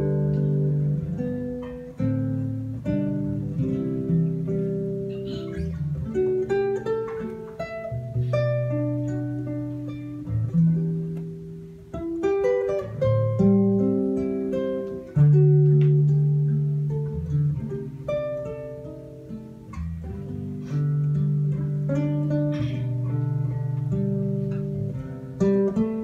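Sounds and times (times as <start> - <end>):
fingerpicked acoustic guitars: 0.0 - 26.0.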